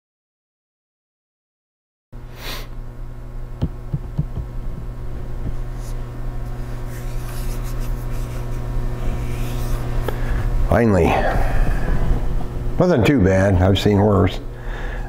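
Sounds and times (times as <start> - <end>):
electrical hum: 2.2 - 15.0.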